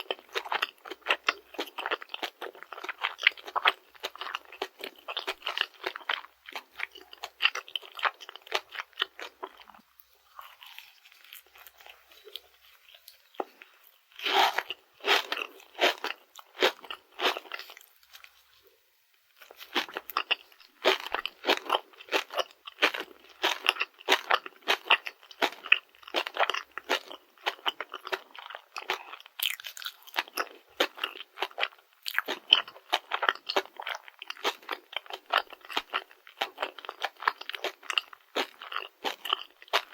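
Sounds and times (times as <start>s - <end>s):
crunchy chewing: 0.0s - 18.8s, 19.4s - 39.9s.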